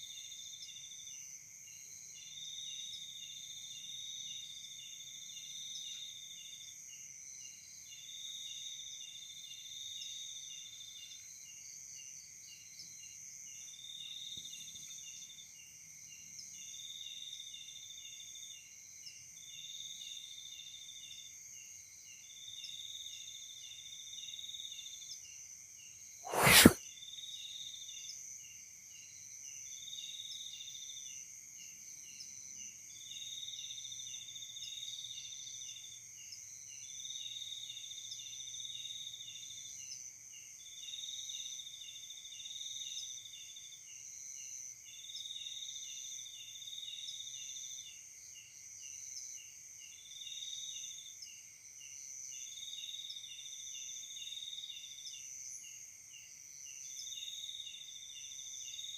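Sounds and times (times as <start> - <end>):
crickets chorus: 0.0 - 26.1, 27.4 - 58.9.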